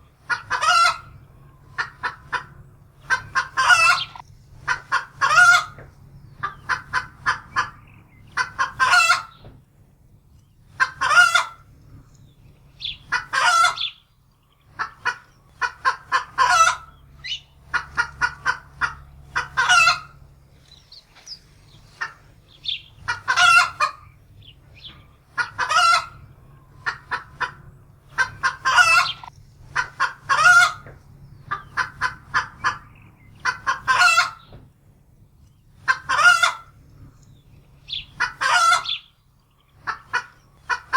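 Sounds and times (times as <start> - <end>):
hen cackling in alarm: 0.2 - 9.4, 10.7 - 11.7, 12.8 - 14.0, 14.6 - 34.5, 35.8 - 36.8, 37.8 - 40.9.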